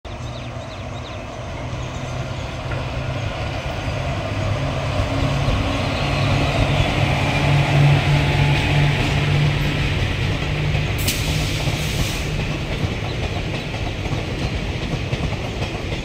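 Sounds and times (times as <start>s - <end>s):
electric locomotive humming: 0.1s - 16.0s
train wheels on rails: 0.2s - 16.0s.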